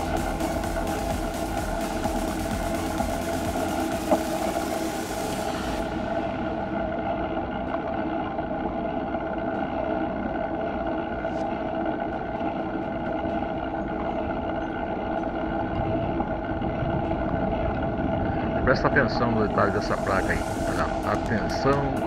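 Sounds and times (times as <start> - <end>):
bicycle tyres and drivetrain rumble: 0.0 - 22.0.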